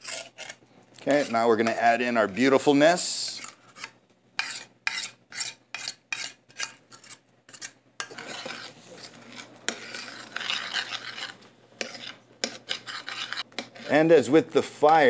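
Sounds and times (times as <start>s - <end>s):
metal spoon scraping a pan: 0.0s - 15.0s.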